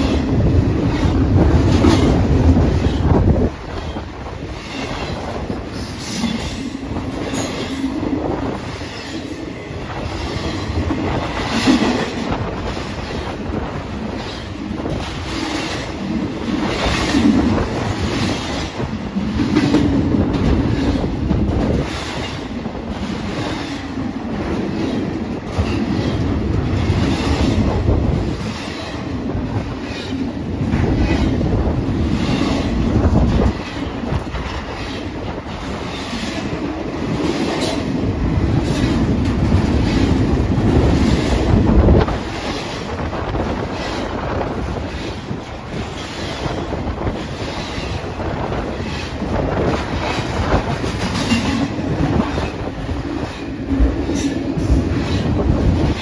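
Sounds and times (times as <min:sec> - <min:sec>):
freight train rumbling past: 0:00.0 - 0:56.0
wheels clicking over rail joints: 0:10.0 - 0:56.0.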